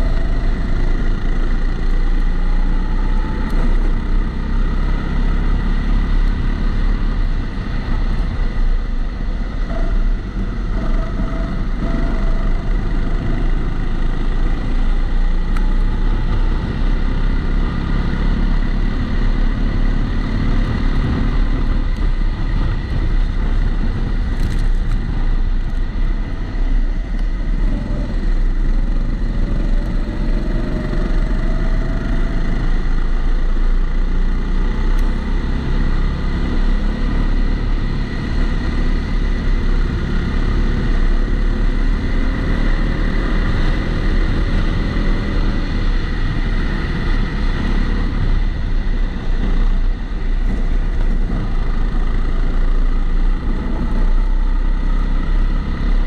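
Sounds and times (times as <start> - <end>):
muffled go-kart engine rumble: 0.0 - 56.0.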